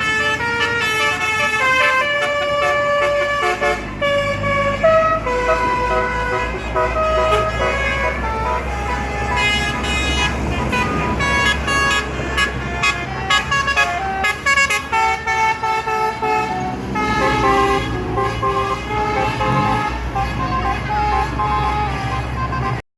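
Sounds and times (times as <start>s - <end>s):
low bus engine rumble: 0.0s - 22.8s
musical bus air horns: 0.0s - 22.8s.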